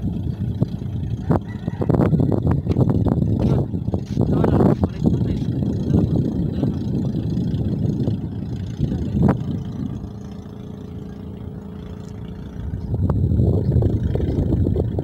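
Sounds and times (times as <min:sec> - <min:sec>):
ship engine rumble: 0:00.0 - 0:15.0
wind buffeting microphone: 0:00.0 - 0:15.0.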